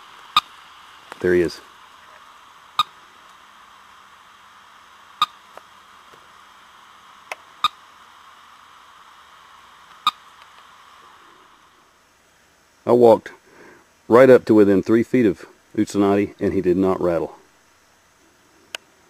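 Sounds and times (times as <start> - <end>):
radio receiver static hiss: 0.0 - 19.0.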